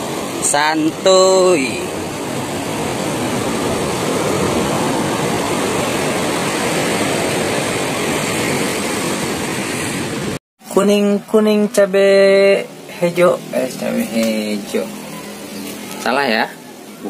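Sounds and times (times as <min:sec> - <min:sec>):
surf washing up a beach: 0:00.0 - 0:11.3, 0:11.9 - 0:17.0.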